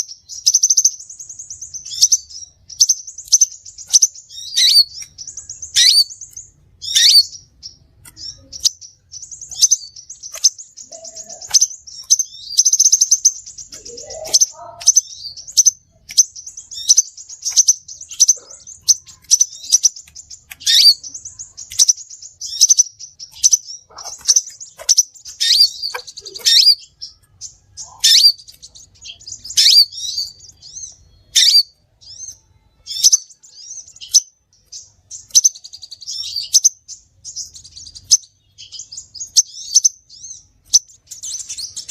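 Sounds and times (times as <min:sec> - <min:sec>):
bird chirping and trilling: 0:00.0 - 0:41.9.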